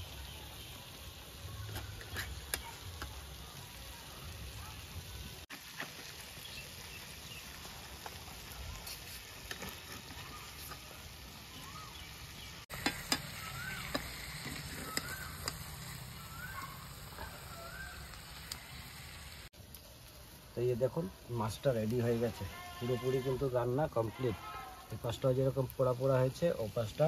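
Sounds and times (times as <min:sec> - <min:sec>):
fish sizzling in oil: 0:00.0 - 0:27.0.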